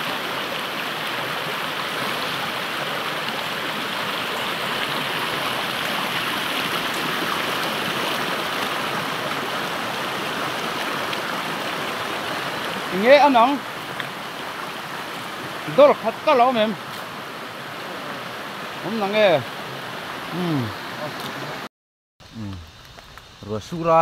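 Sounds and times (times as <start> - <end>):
river water rushing: 0.0 - 21.7.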